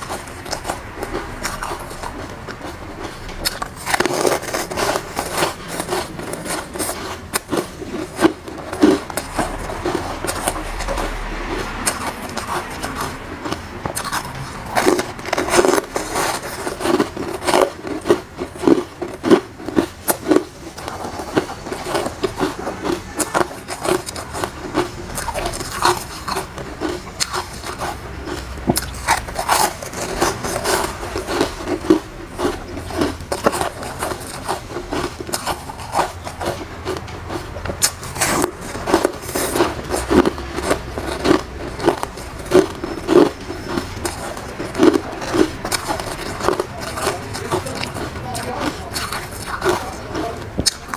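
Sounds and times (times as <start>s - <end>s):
chewing and crunching ice: 0.0s - 50.9s.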